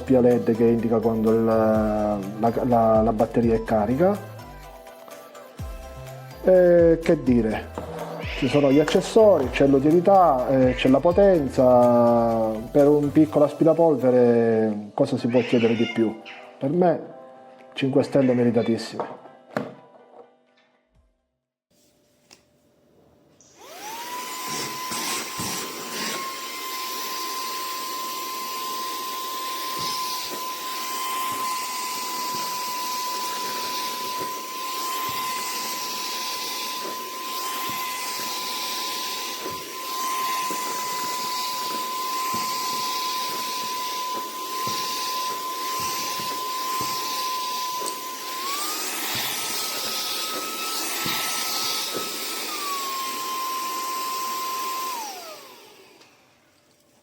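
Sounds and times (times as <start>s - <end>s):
handheld vacuum cleaner whine: 0.0s - 4.2s, 5.1s - 15.8s, 23.4s - 57.0s.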